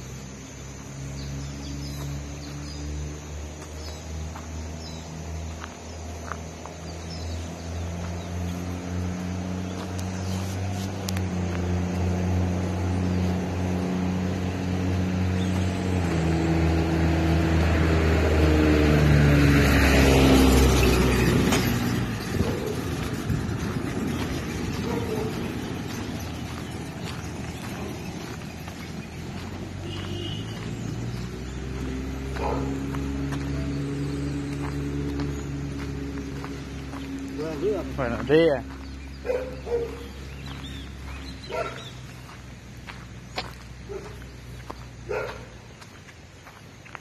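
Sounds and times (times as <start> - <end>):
road and wind noise rush: 0.0 - 47.0
vehicle engine running: 0.0 - 47.0.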